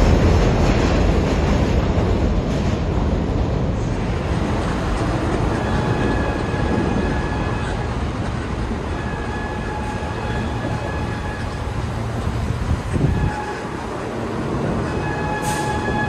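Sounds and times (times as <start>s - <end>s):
train rumble on track: 0.0s - 16.0s.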